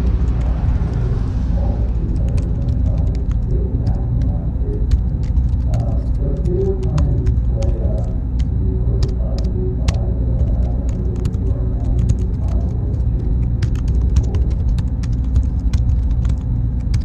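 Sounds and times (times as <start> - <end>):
muffled voices: 0.0 - 15.0
low rumble: 0.0 - 17.0.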